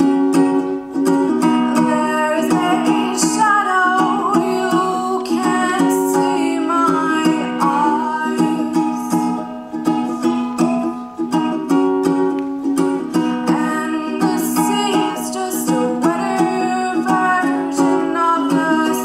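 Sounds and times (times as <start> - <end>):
woman singing: 0.0 - 10.1, 13.1 - 19.0
ukulele strumming: 0.0 - 19.0.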